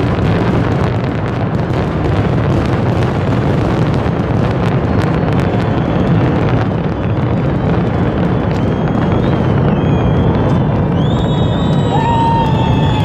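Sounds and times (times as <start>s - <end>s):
fireworks barrage: 0.0s - 13.0s
sharp fireworks cracks: 0.0s - 13.0s.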